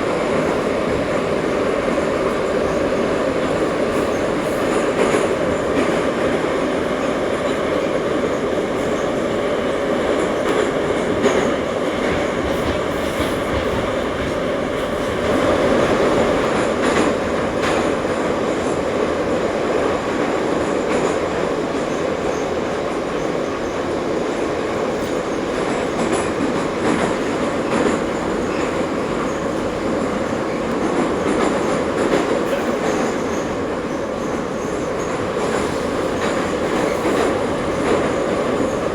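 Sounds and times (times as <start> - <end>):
metro train rumbling: 0.0 - 38.9.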